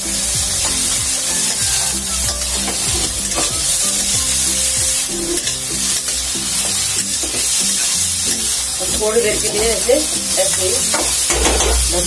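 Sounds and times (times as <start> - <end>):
metal spatula scraping pan: 0.0 - 12.0
vegetables sizzling in oil: 0.0 - 12.0.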